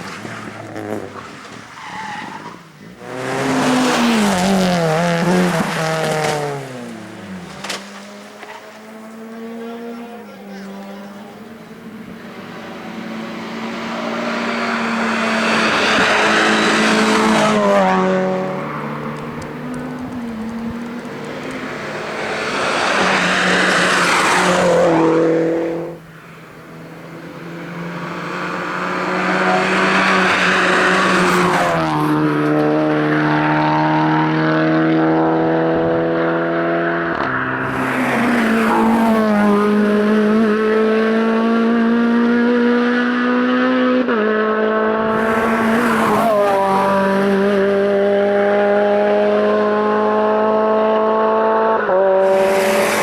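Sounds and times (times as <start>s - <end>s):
race car engines revving: 0.0s - 53.0s.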